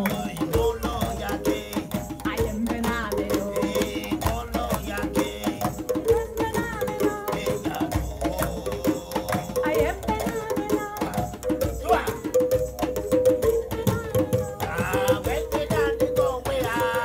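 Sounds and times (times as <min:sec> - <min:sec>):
woman singing: 0:00.0 - 0:12.4, 0:13.4 - 0:17.0
djembe played by hand: 0:00.0 - 0:17.0.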